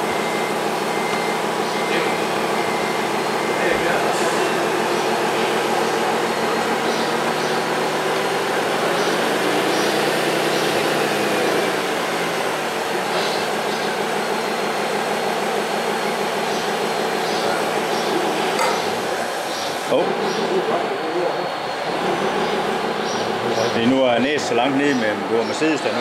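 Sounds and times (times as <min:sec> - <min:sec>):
model trucks mechanical hum: 0:00.0 - 0:26.0.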